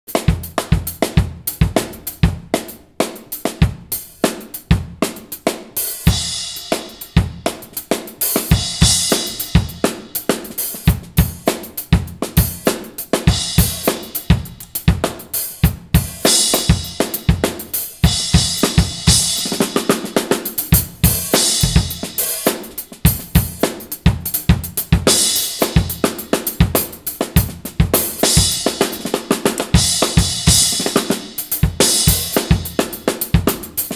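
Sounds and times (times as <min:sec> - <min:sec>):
drum kit playing: 0:00.1 - 0:33.9.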